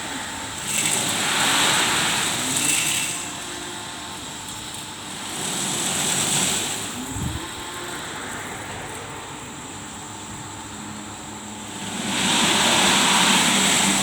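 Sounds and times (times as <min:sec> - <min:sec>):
car wash rushing: 0:00.0 - 0:14.0.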